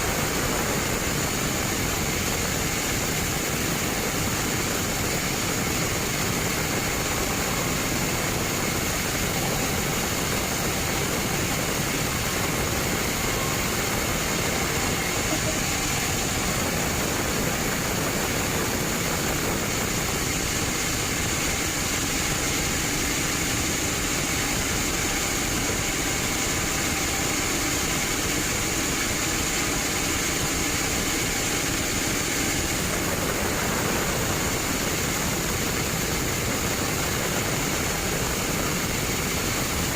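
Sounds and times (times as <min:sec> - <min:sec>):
bandsaw machinery running: 0:00.0 - 0:39.9
faint high whine: 0:00.0 - 0:39.9.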